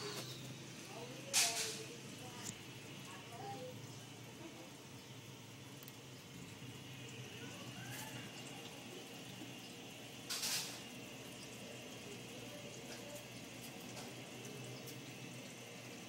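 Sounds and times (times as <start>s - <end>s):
dishwasher low hum: 0.0s - 16.0s.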